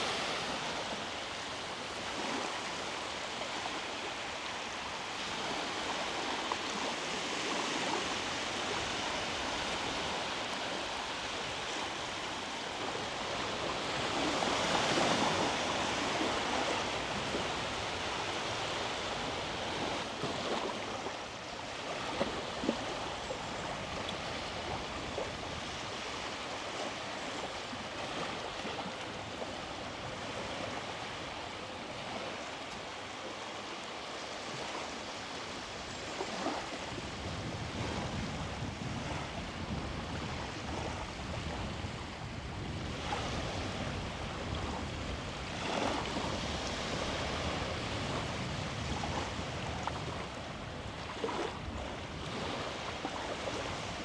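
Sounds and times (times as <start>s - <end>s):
sea waves washing onto beach: 0.0s - 54.0s.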